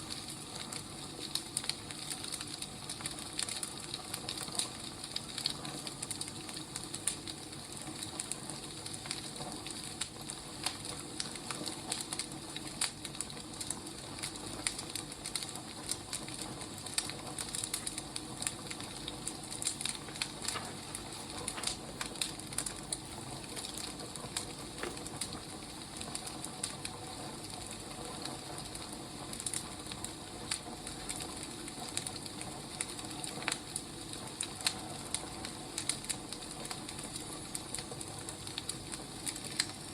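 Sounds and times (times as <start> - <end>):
soft fire hiss: 0.0 - 39.9
wood fire crackling: 0.0 - 39.9.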